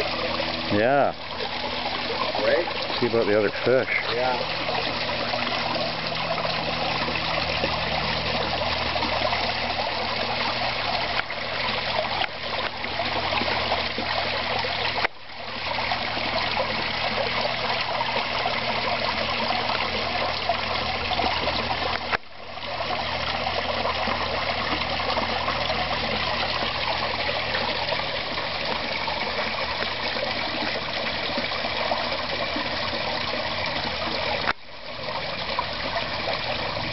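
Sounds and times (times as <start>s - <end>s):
water splashing into pond: 0.0s - 36.9s.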